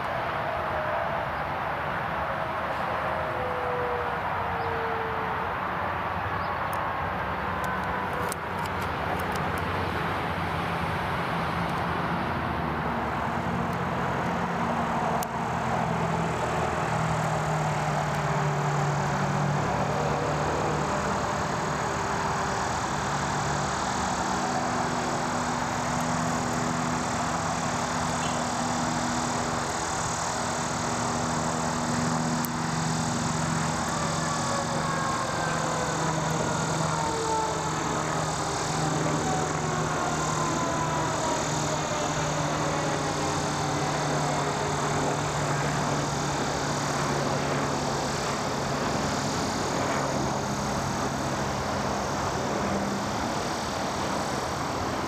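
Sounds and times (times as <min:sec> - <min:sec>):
helicopter flying past: 0:00.0 - 0:55.0.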